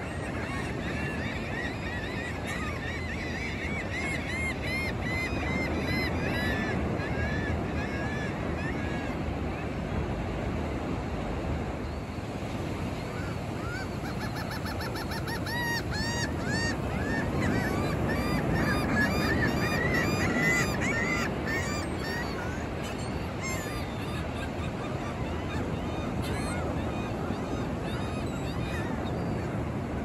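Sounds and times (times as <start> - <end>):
seagulls calling: 0.0 - 10.1, 11.9 - 30.0.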